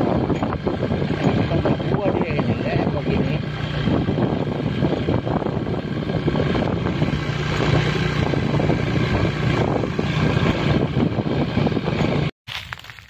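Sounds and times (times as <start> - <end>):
motorcycle engine cruising: 0.0 - 12.3
wind rushing over microphone: 0.0 - 12.3.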